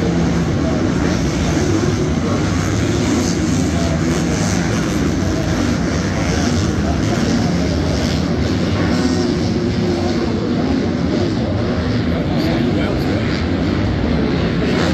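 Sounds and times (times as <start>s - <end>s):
motorcycle engines droning: 0.0s - 14.9s.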